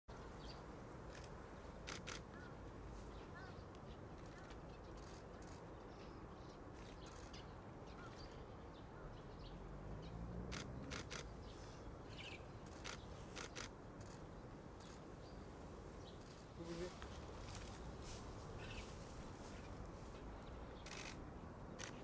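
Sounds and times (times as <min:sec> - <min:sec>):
birds chirping: 0:00.1 - 0:22.0
faint background hiss: 0:00.1 - 0:22.0.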